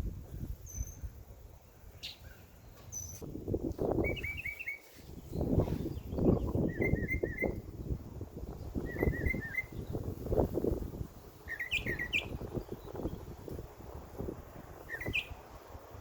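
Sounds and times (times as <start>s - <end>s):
songbirds chirping: 0.1s - 16.0s.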